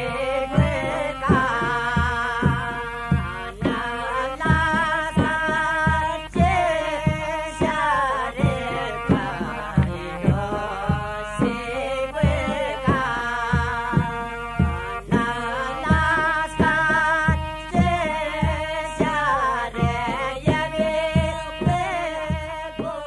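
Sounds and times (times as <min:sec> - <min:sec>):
steady drum beat: 0:00.0 - 0:23.0
wavering folk melody: 0:00.0 - 0:23.0.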